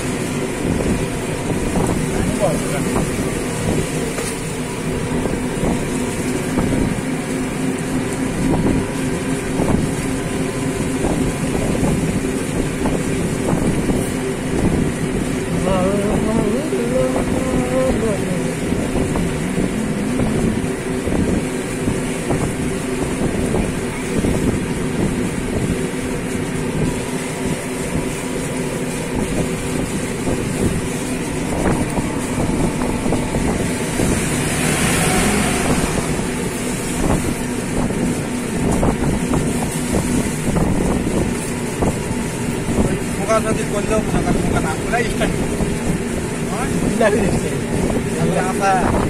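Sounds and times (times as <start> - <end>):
boat engine running: 0.0 - 49.0
wind noise on microphone: 0.0 - 49.0.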